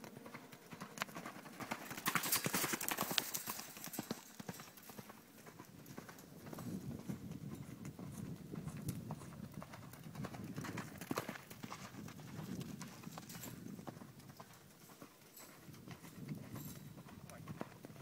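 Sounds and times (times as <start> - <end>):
horse hoofbeats on soft sand: 0.0 - 18.0.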